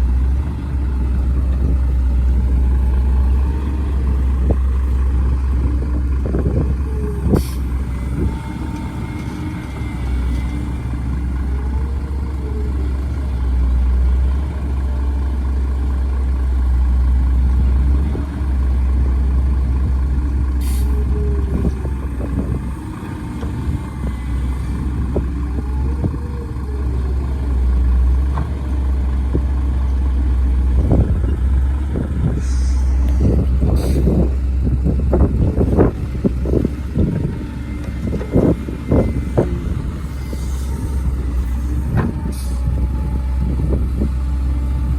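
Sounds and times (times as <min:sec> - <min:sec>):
heavy diesel engine rumbling: 0:00.0 - 0:44.9.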